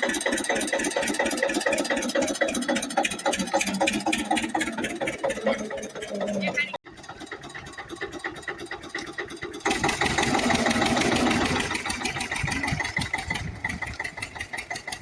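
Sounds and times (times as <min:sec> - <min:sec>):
tractor diesel engine chugging: 0:00.0 - 0:15.0.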